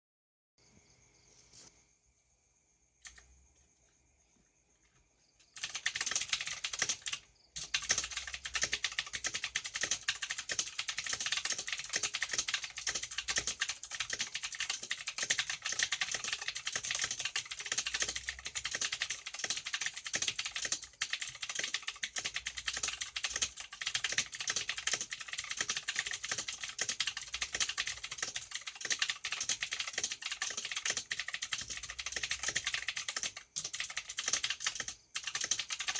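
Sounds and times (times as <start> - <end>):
mechanical keyboard typing: 3.0 - 3.3, 5.5 - 35.9.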